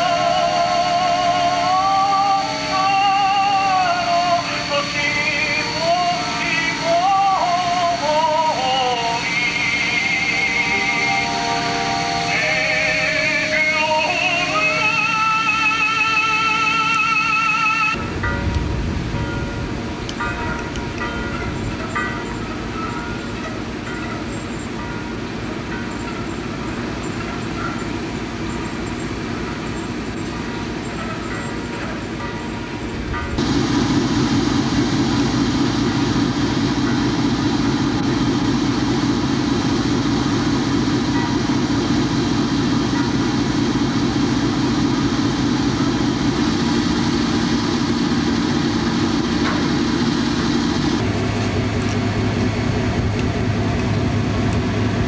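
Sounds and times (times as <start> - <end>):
boat diesel engine droning: 0.0 - 55.0.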